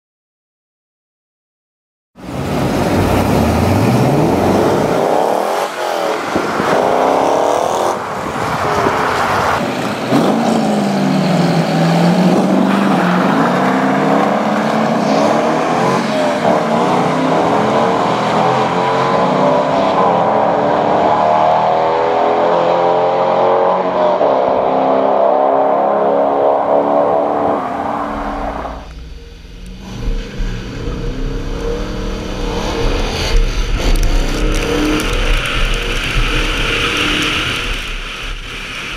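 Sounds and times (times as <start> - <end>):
car engines accelerating hard: 2.2 - 38.9.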